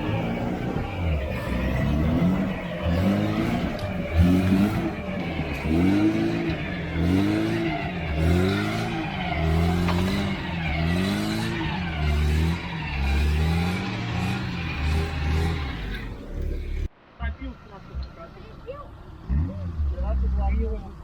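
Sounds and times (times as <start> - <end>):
vehicle engine revving: 0.0 - 16.9, 17.9 - 21.0.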